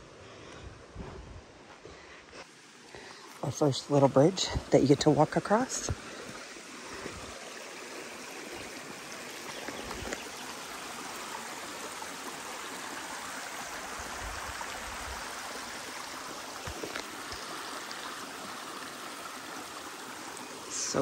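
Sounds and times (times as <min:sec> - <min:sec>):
creek babbling over rocks: 0:01.6 - 0:21.0.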